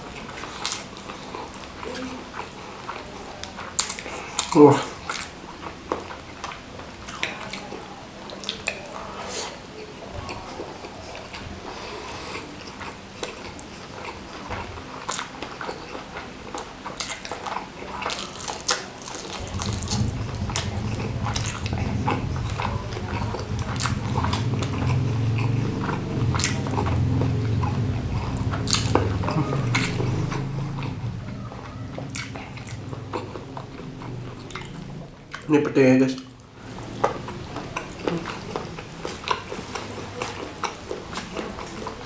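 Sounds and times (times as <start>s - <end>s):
low rumble of chewing: 0.0s - 42.0s.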